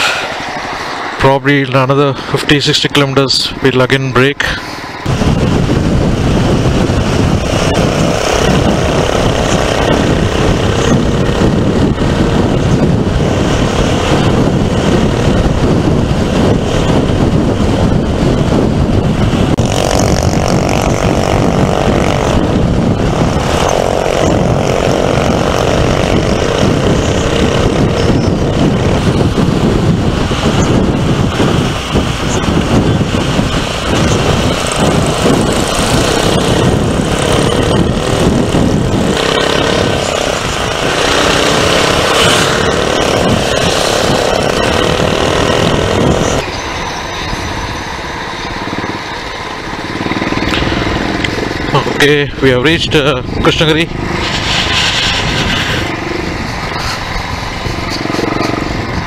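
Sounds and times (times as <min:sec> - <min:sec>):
wind rushing over microphone: 0:00.0 - 0:59.0
motorcycle engine running: 0:05.1 - 0:59.0.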